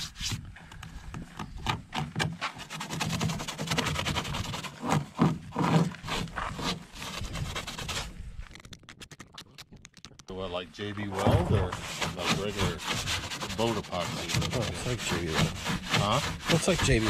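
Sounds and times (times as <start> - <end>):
hand sanding plastic hull: 0.0 - 17.0.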